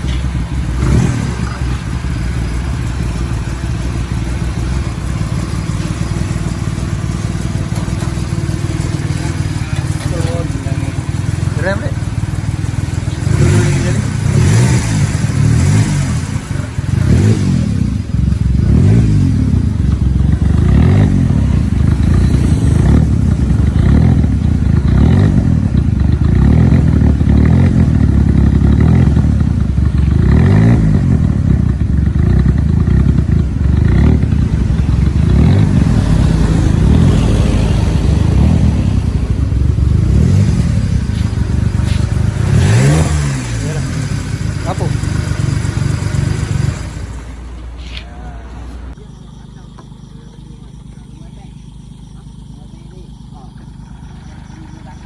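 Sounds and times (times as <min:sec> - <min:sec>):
small car engine revving: 0:00.0 - 0:55.0.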